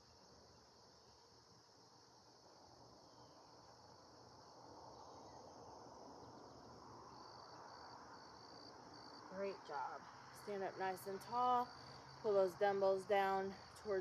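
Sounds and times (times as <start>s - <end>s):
faint high insect chorus: 0.0s - 14.0s.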